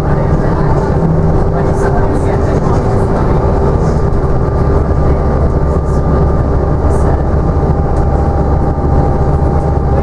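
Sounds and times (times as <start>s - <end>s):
bus engine drone: 0.0s - 10.0s
road rumble: 0.0s - 10.0s.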